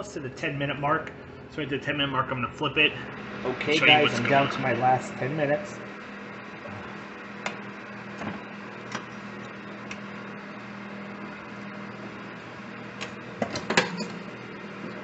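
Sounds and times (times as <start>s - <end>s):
air fryer fan hum: 0.0s - 15.0s.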